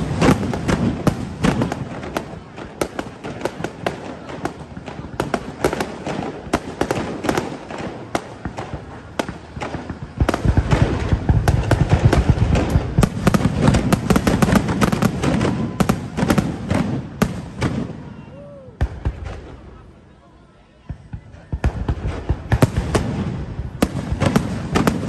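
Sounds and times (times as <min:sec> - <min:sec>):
deep fireworks booms: 0:00.0 - 0:25.0
fireworks bangs and crackles: 0:00.0 - 0:25.0.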